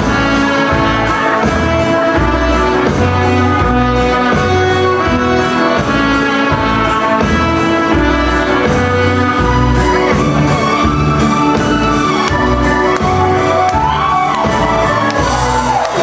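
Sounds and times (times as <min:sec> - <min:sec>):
orchestral music with bass beat: 0:00.0 - 0:16.0.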